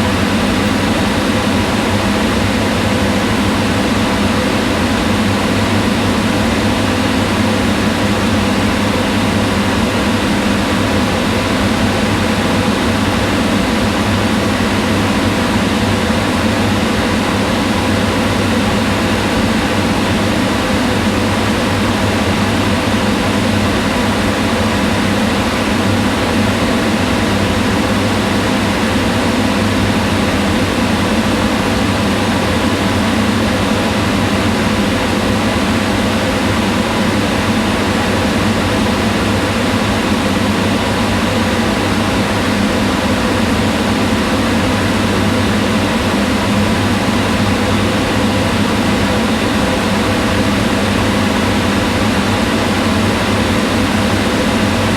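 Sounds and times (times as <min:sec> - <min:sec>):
range hood fan humming: 0:00.0 - 0:54.9.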